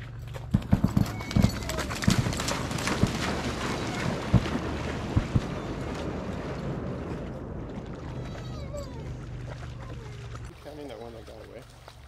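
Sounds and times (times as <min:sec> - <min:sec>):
dog splashing through water: 0:00.0 - 0:12.0.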